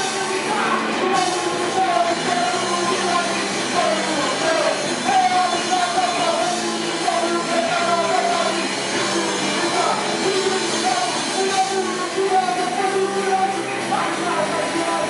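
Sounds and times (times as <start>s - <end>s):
drums: 0.0s - 15.0s
electric guitars: 0.0s - 15.0s
man singing into microphone: 0.0s - 15.0s.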